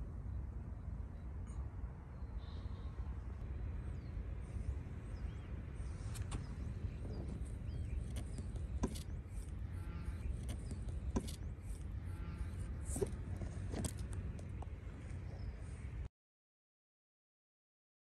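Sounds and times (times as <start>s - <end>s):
steady low rumble: 0.0s - 16.1s.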